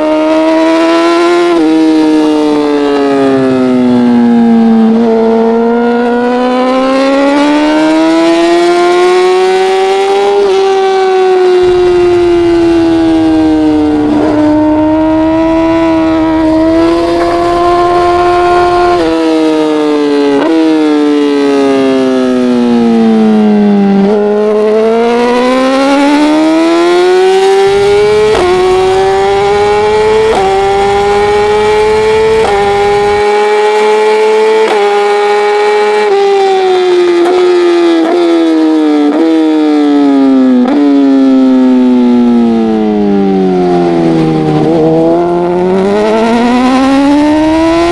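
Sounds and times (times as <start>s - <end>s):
racing motorcycle engine: 0.0s - 47.9s.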